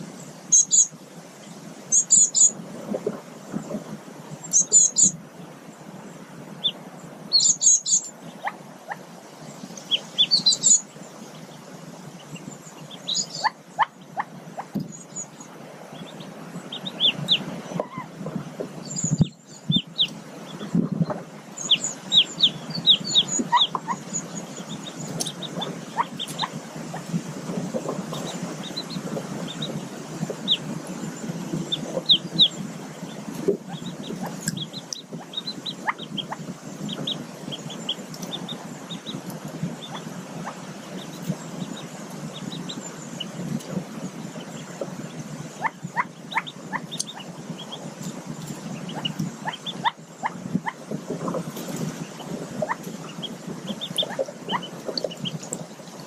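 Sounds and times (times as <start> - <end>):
ducklings peeping: 0.0 - 56.0
low background hiss: 0.0 - 56.0.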